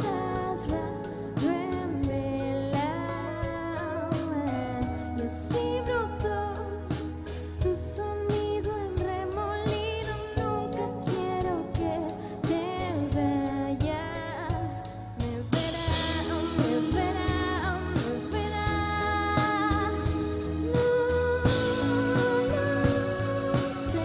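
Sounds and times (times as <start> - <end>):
drum kit: 0.0 - 24.0
electric guitar: 0.0 - 24.0
woman singing: 0.0 - 24.0.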